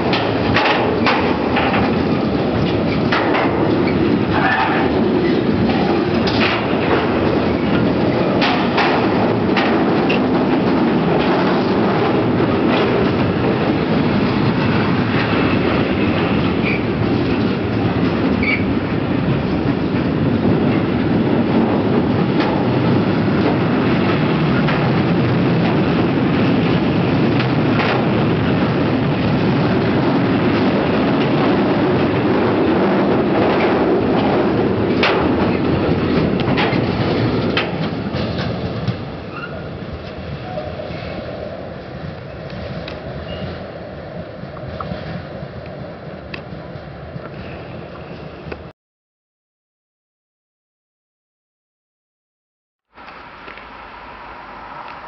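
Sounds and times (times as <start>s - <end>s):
train wheels rumbling on rails: 0.0s - 48.7s.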